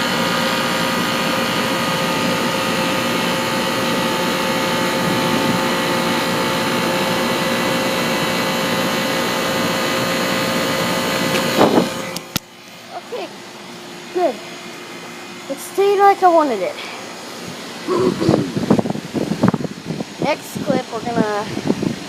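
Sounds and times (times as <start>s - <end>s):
air conditioner unit fan rushing: 0.0s - 22.0s
compressor hum: 0.0s - 22.0s.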